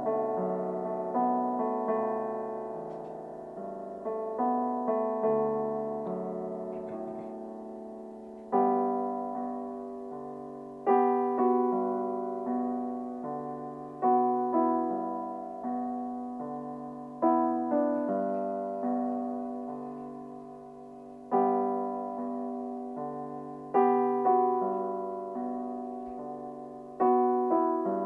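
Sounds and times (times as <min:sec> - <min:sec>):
slow solo piano chords: 0:00.0 - 0:28.0.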